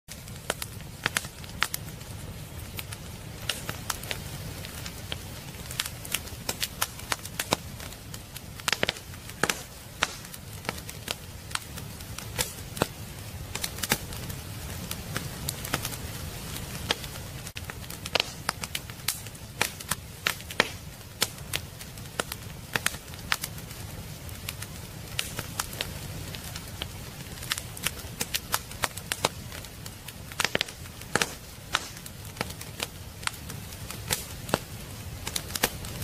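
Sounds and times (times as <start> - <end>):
firewood crackling and popping: 0.1 - 36.0
low rumble of flames: 0.1 - 36.0.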